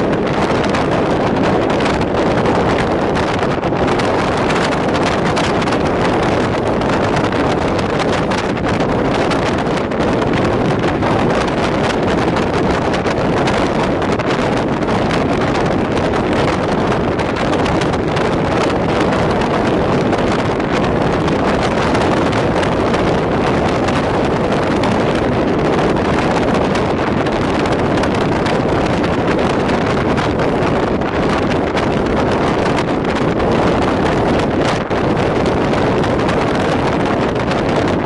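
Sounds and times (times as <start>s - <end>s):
moving train running noise: 0.0s - 38.0s
wind buffeting microphone: 0.0s - 38.0s.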